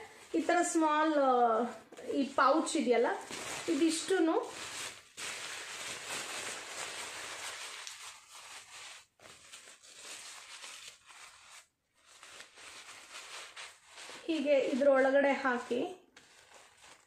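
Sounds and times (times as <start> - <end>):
nylon bag rustling and crinkling: 1.6 - 17.0.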